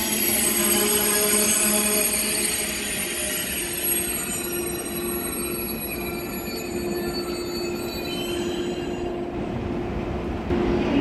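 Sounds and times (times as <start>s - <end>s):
high-pitched whining tones: 0.0s - 9.6s
train humming: 0.0s - 11.0s.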